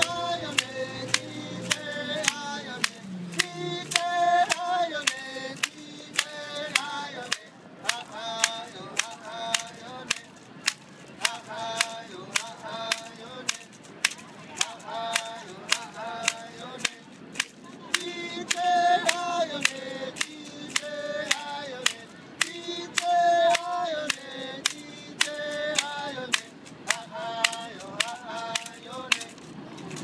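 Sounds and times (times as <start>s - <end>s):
men singing: 0.0s - 30.0s
wooden clapper sticks: 0.0s - 30.0s.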